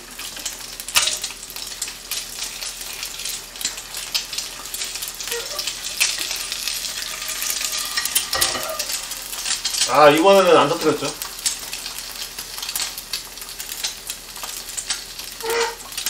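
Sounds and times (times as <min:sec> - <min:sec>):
egg sizzling in a pan: 0:00.0 - 0:16.0.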